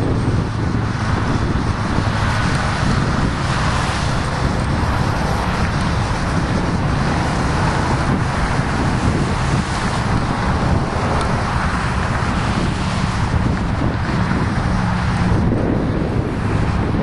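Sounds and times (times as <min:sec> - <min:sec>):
freight train rumbling past: 0:00.0 - 0:17.0
highway traffic passing: 0:00.0 - 0:17.0
wind buffeting microphone: 0:00.0 - 0:17.0.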